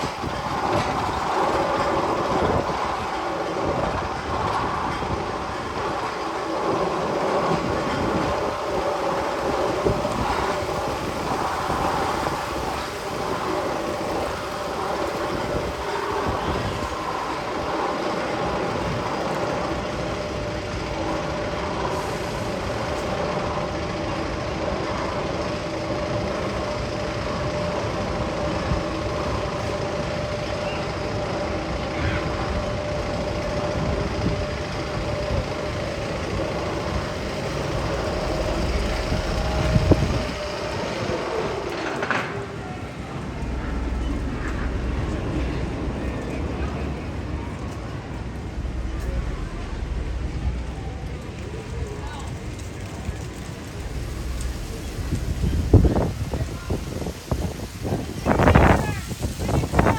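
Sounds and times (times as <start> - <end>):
droning tones: 0.0 - 59.9
rail-like rumbling noise: 0.0 - 59.9.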